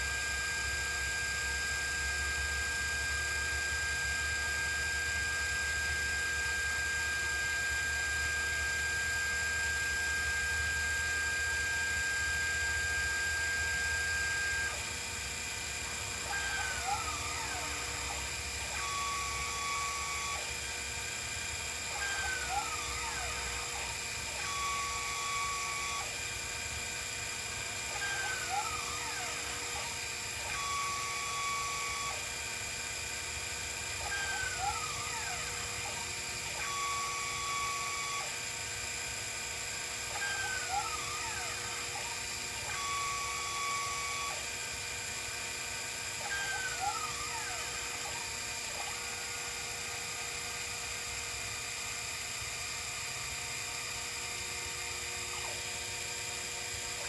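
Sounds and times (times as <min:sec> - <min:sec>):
stepper motors whining: 0:04.3 - 0:57.0.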